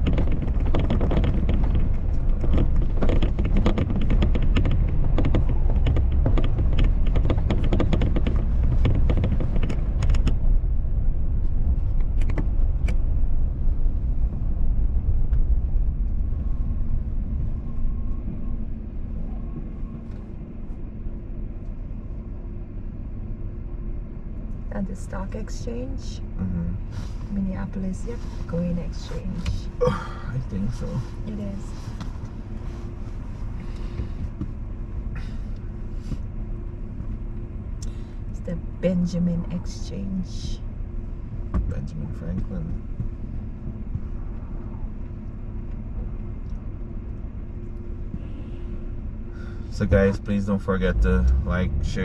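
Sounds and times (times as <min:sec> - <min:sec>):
car road and engine rumble: 0:00.0 - 0:52.0
rattling crackling tyre noise: 0:00.0 - 0:52.0.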